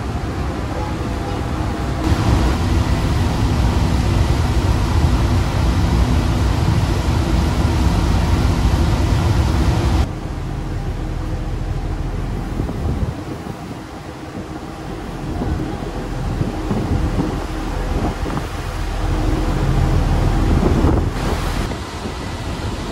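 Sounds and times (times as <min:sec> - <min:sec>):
broad rushing noise: 0:00.0 - 0:22.9
low engine drone: 0:00.0 - 0:22.9.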